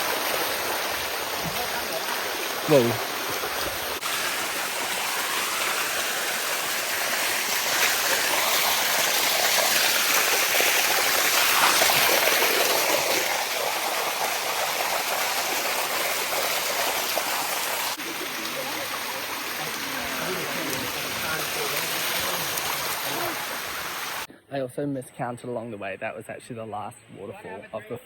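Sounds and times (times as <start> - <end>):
water rushing down rocks: 0.0 - 24.3.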